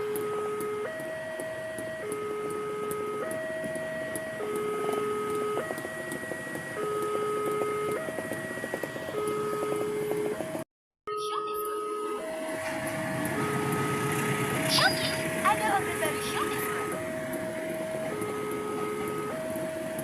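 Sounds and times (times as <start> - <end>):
two-tone level crossing alarm: 0.0 - 20.0.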